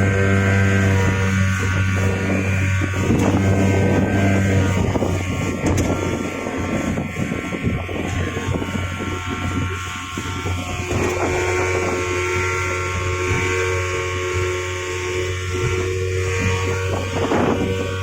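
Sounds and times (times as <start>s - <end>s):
speedboat engine running: 0.0s - 18.0s.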